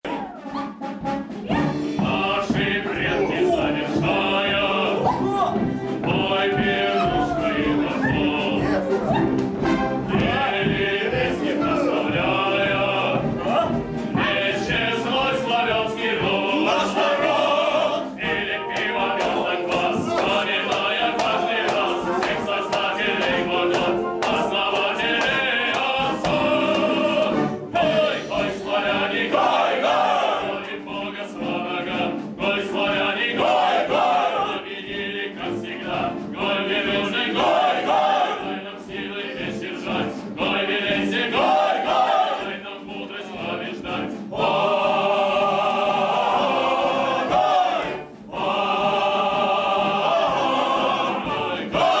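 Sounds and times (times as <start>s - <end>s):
choir singing: 0.0s - 52.0s
instrumental accompaniment: 0.1s - 52.0s.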